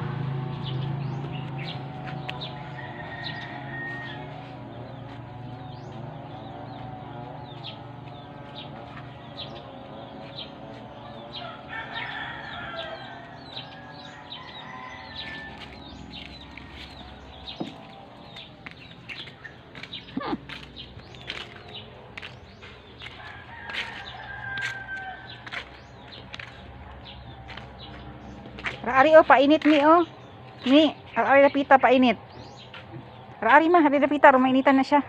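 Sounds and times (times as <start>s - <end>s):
wavering bird calls: 0.7s - 33.6s.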